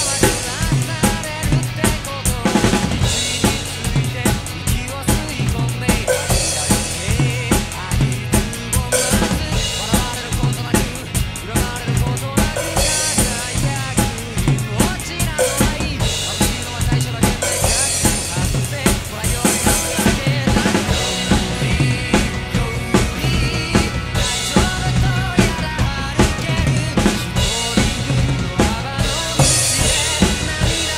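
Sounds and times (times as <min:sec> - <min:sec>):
recorded band with singing: 0:00.0 - 0:30.9
rock drum beat: 0:00.0 - 0:30.9.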